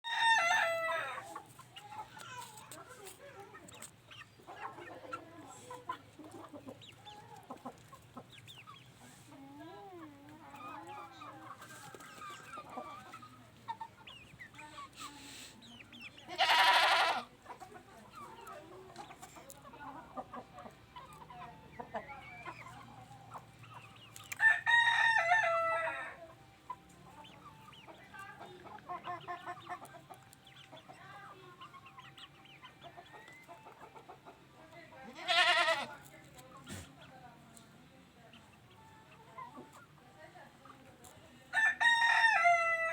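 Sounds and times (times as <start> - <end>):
chickens clucking softly: 0.0 - 34.8.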